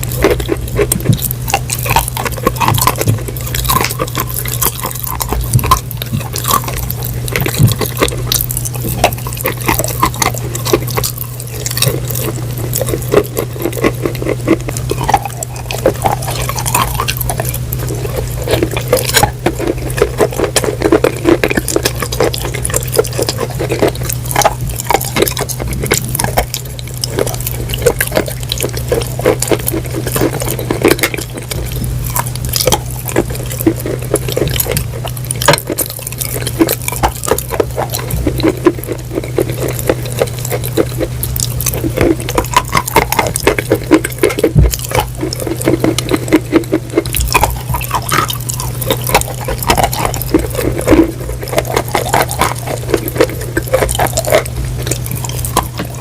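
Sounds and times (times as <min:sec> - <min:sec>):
steady low hum: 0:00.0 - 0:56.0
wet crunching and chewing: 0:00.0 - 0:56.0.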